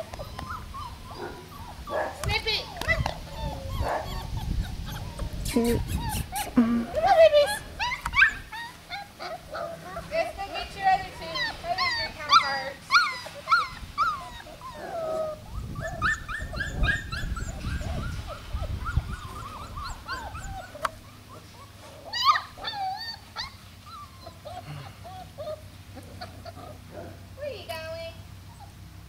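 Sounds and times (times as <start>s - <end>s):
puppies yipping and whimpering: 0.0s - 26.9s, 28.4s - 28.8s.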